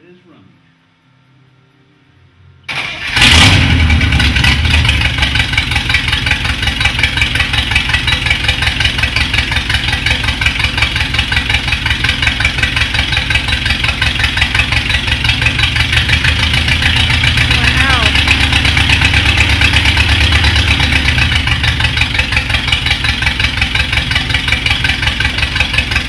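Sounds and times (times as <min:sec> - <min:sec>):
car engine idling: 0:02.7 - 0:26.0.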